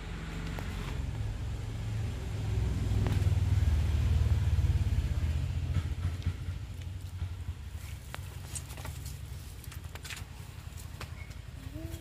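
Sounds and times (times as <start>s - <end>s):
low fluttering rumble: 0.0s - 12.0s.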